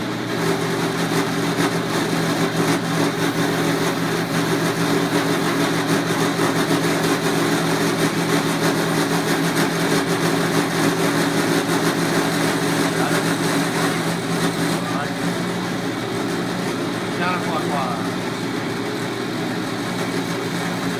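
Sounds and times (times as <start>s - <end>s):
cutter hissing through wood: 0.0s - 20.9s
milling machine motor hum: 0.0s - 20.9s.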